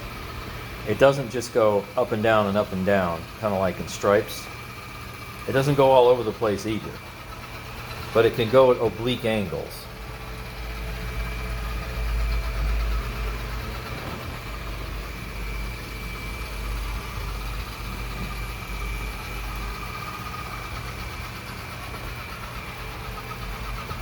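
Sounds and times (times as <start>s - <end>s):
robot vacuum motor whir: 0.0s - 24.0s.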